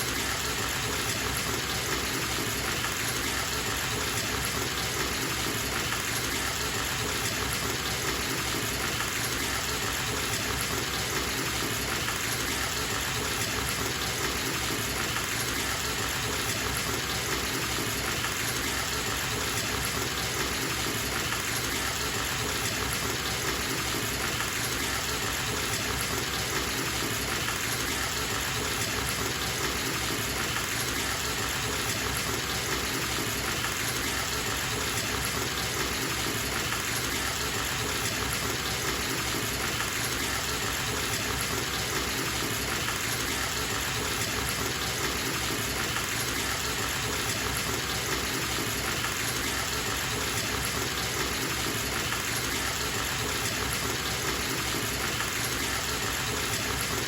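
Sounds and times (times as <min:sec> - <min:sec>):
water gushing from bathtub tap: 0:00.2 - 0:57.0.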